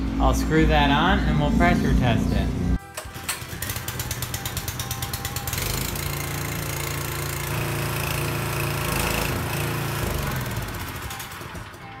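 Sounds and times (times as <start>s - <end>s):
pressure washer running: 0.0s - 12.0s.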